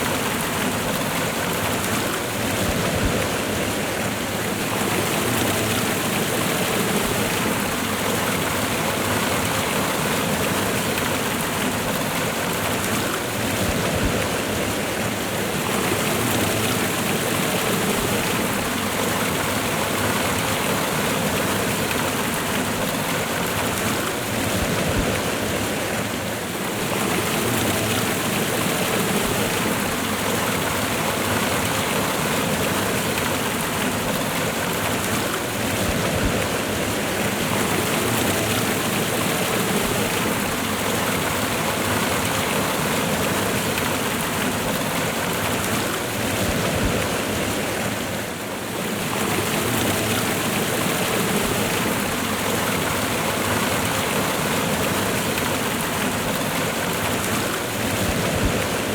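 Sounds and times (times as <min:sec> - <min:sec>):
waterfall and river rushing: 0:00.0 - 0:58.9.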